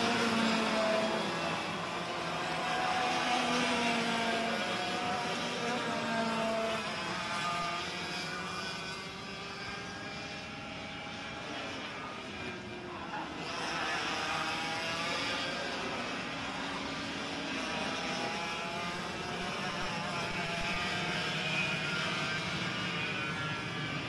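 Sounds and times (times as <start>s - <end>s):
kart engines racing: 0.0s - 24.0s.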